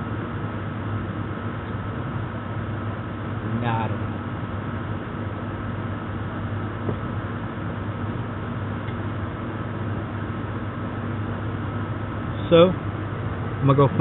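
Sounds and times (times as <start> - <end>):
constant background noise: 0.0 - 14.0
low mechanical hum: 0.0 - 14.0.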